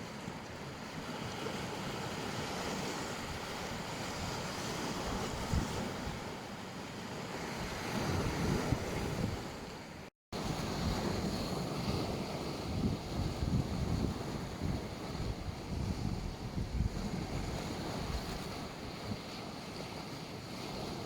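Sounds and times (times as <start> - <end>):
sea waves washing onto beach: 0.0 - 21.0
wind rumbling on microphone: 0.9 - 21.0.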